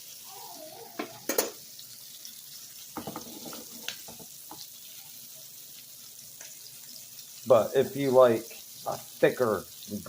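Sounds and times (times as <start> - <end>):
shrimp frying in hot oil: 0.0 - 10.0.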